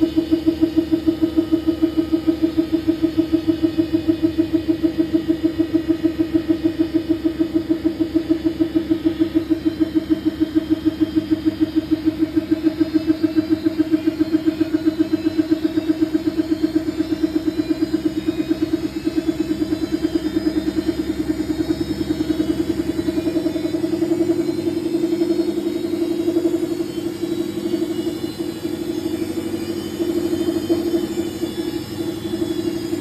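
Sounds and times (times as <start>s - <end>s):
washing machine spinning hum: 0.0s - 33.0s.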